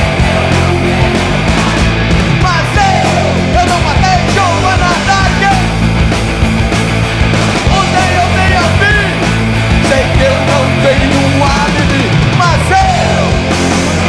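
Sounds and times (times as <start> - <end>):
bass guitar: 0.0 - 14.0
drums: 0.0 - 14.0
electric guitars: 0.0 - 14.0.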